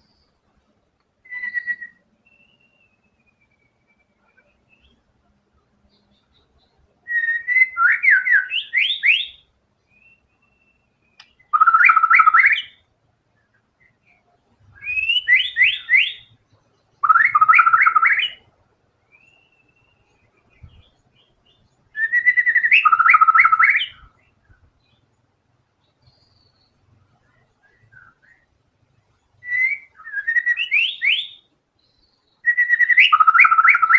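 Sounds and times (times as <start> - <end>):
bird singing rising phrases: 1.2 - 5.1, 5.8 - 33.9.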